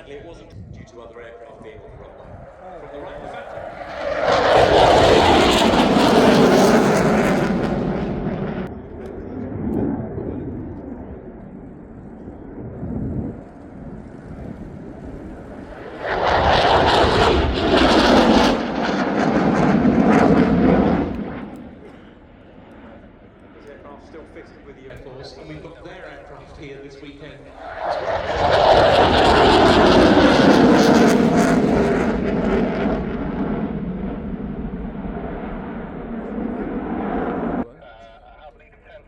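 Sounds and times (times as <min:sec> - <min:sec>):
jet aircraft passing: 0:00.0 - 0:37.8
quieter engine noise: 0:00.0 - 0:39.0.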